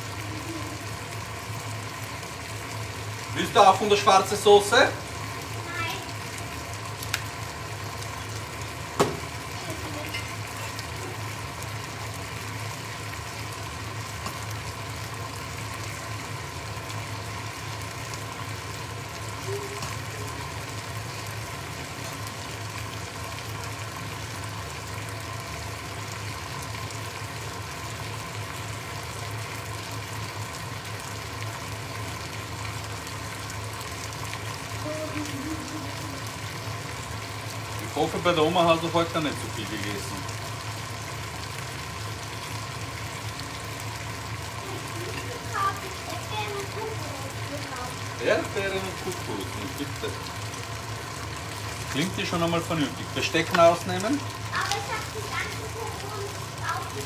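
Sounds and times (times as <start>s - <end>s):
food sizzling in frying pans: 0.0s - 57.0s.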